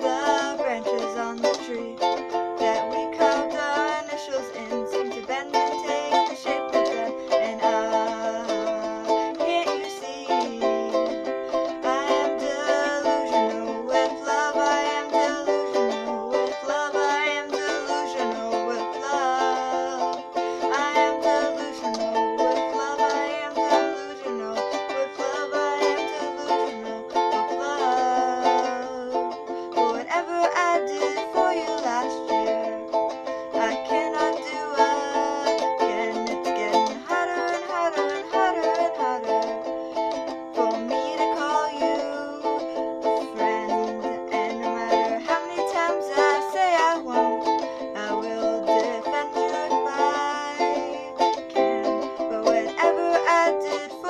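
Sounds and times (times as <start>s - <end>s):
person singing: 0.0s - 54.0s
ukulele strumming chords: 0.0s - 54.0s.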